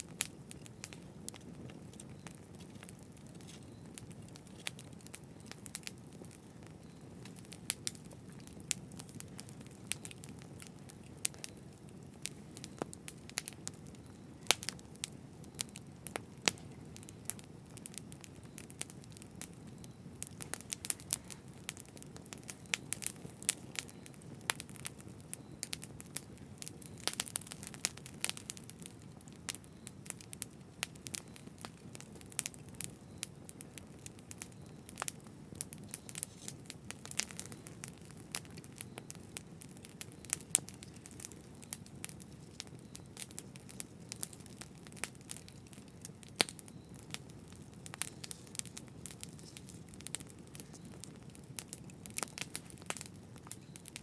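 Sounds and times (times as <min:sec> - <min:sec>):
campfire crackling: 0:00.0 - 0:54.0
low fire rumble: 0:00.0 - 0:54.0.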